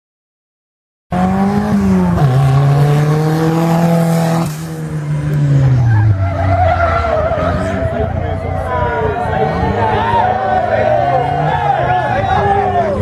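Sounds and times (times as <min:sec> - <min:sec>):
buggy engine at high revs: 0:01.1 - 0:13.0.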